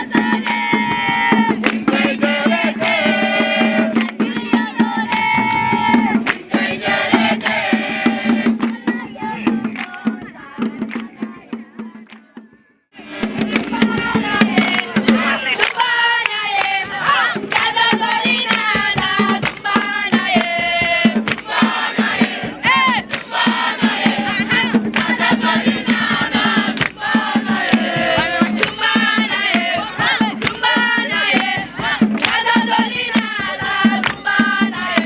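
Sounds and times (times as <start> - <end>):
children chanting and shouting a song: 0.0 - 12.4, 13.0 - 35.0.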